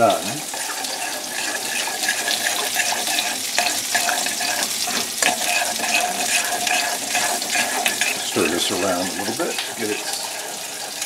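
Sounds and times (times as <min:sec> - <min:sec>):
fish sizzling in a skillet: 0:00.0 - 0:11.0
utensil clicking on a saucepan: 0:00.0 - 0:11.0.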